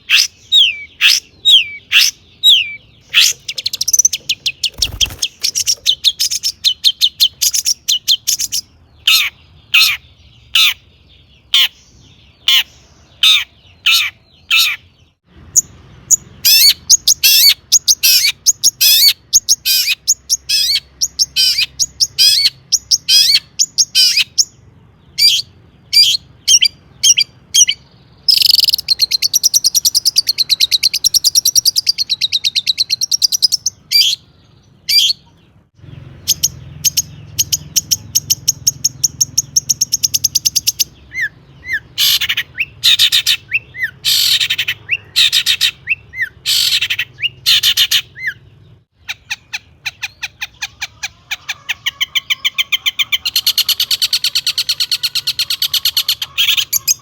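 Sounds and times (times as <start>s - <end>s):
bird fast trill: 0.0s - 57.0s
bird singing sharp call notes: 0.0s - 57.0s.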